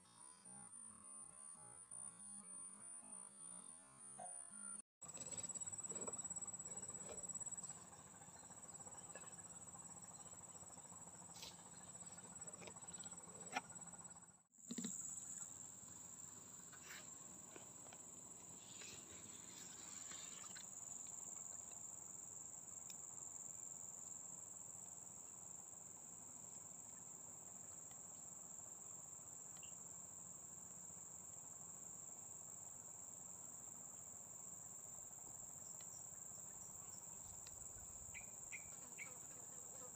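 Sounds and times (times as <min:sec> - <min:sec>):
insects droning: 0:00.1 - 0:39.9.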